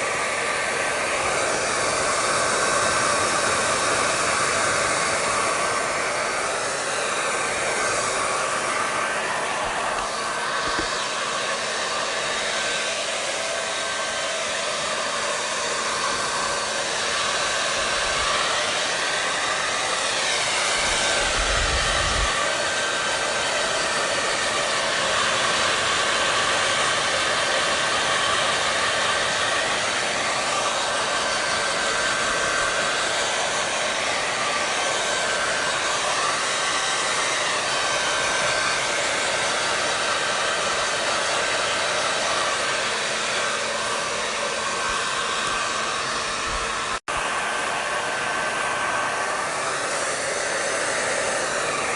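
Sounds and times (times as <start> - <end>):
hair dryer running: 0.0 - 51.9.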